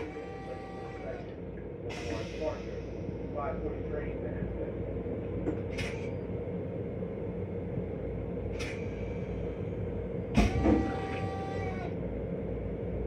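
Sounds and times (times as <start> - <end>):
railcar rumble and hum: 0.0 - 13.0.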